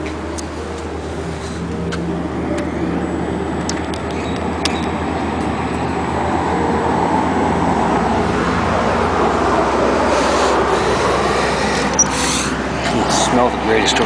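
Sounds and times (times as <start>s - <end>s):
rushing outdoor noise with low rumble: 0.0s - 14.0s.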